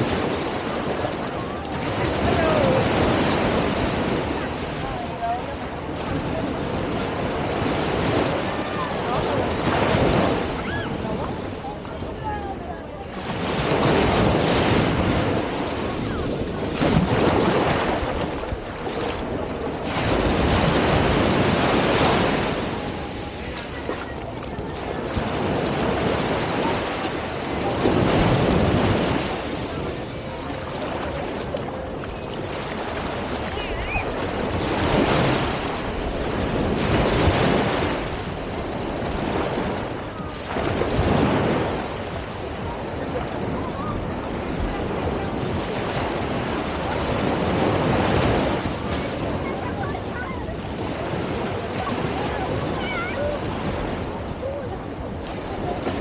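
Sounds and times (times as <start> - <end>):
ocean surf washing onto beach: 0.0 - 56.0
wind buffeting microphone: 0.0 - 56.0.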